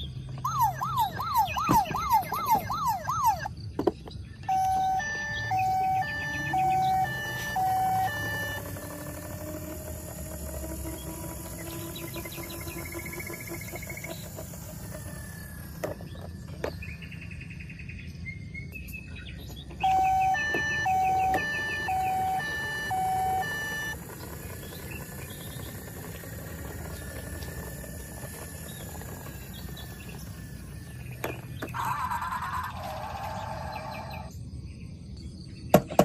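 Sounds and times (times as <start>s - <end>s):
steady low hum: 0.0s - 35.7s
toy two-tone siren: 0.3s - 3.6s, 4.4s - 16.9s, 19.6s - 34.3s.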